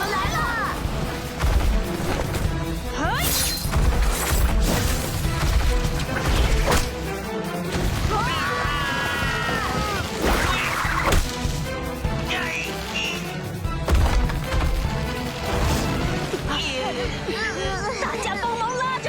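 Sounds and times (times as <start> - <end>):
driving action music: 0.0 - 19.0.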